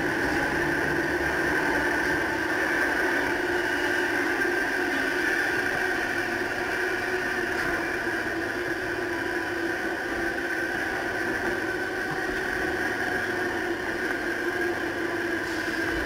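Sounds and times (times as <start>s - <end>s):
electric train running in tunnel: 0.0s - 16.0s.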